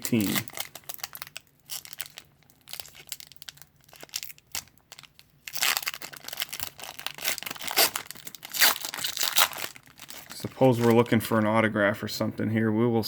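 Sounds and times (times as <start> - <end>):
wrapper tearing open: 0.0 - 11.2
wrapper crinkling: 0.0 - 11.6.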